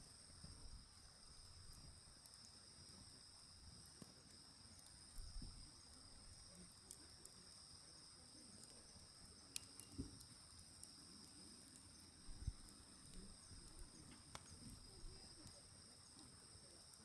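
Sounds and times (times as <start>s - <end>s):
crickets trilling: 0.0s - 17.0s
firewood crackling and popping: 0.0s - 17.0s.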